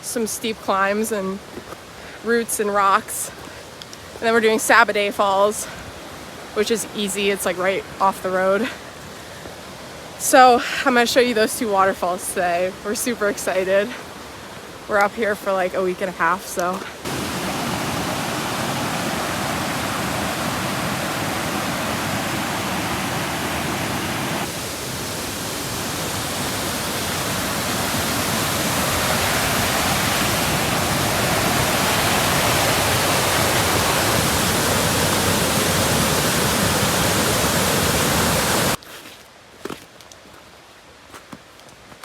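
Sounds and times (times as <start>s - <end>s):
waterfall rushing: 4.0s - 38.8s.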